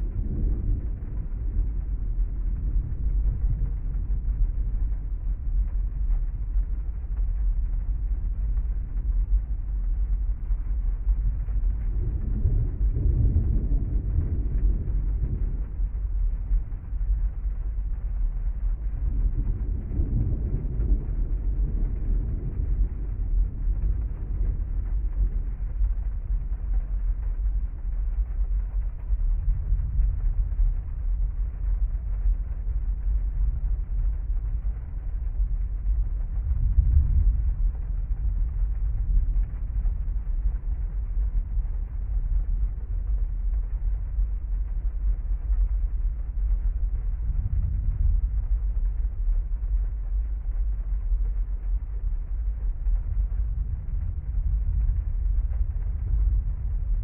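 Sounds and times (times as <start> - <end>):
muffled rain rumble inside car: 0.0 - 57.0.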